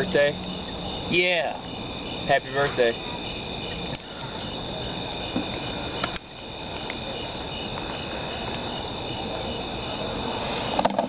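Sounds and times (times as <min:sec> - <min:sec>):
crickets chirping: 0:00.0 - 0:11.0
steady hiss: 0:00.0 - 0:11.0.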